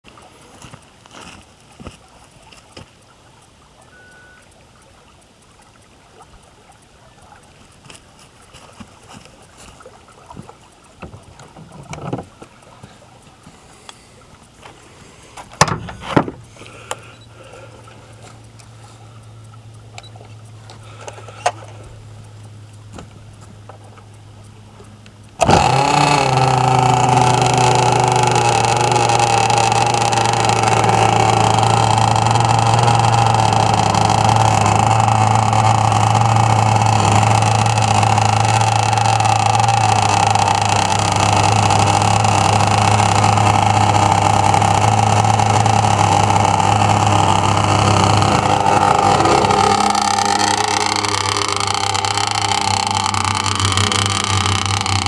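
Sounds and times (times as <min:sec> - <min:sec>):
two-stroke engine idling: 0:00.1 - 0:55.0.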